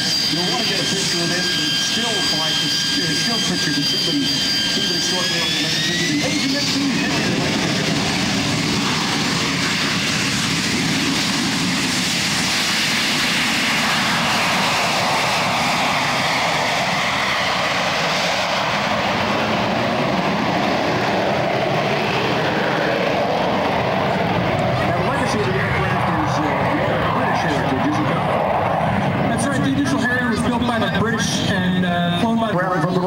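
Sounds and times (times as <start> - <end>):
jet engine roar at takeoff: 0.0 - 33.0.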